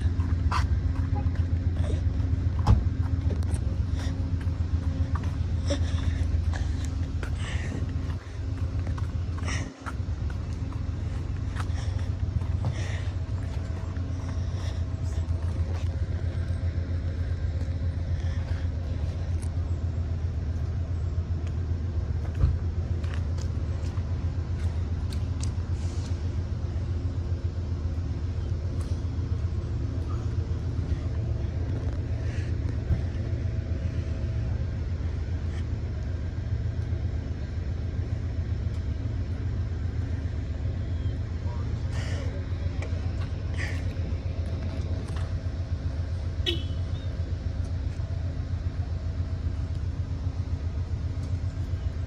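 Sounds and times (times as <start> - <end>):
faint hum: 0.0 - 52.0
train rumbling on track: 0.0 - 52.0.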